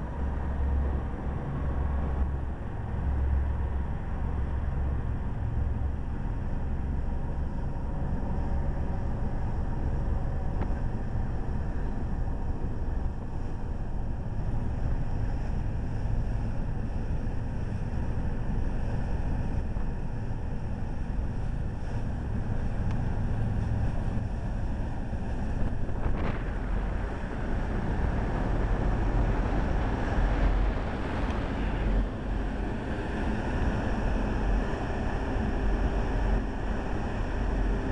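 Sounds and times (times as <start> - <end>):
boat engines running: 0.0 - 37.9
wake rushing along hull: 0.0 - 37.9
wind buffeting microphone: 0.0 - 37.9.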